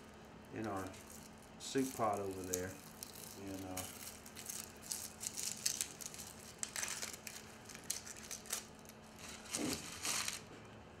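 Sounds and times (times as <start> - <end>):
onion skin crackling and tearing: 0.6 - 10.5.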